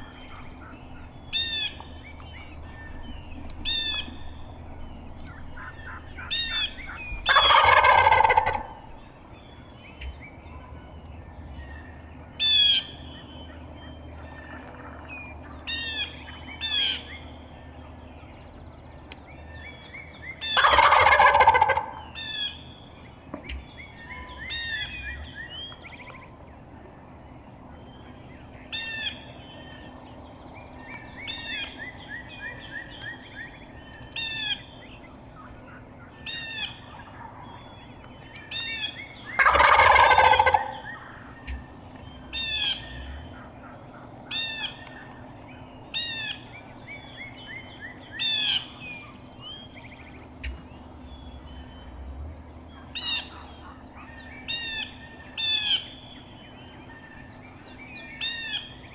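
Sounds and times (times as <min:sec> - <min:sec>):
turkey gobbling: 0:00.0 - 0:09.2, 0:09.9 - 0:18.0, 0:20.3 - 0:22.7, 0:23.4 - 0:26.4, 0:30.8 - 0:58.8
songbirds chirping: 0:00.0 - 0:58.9.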